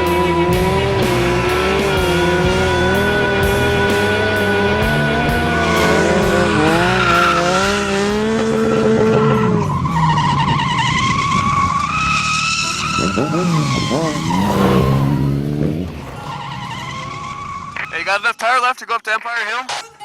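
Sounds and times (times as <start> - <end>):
car engines revving: 0.0 - 18.3
tires squealing: 0.0 - 18.5.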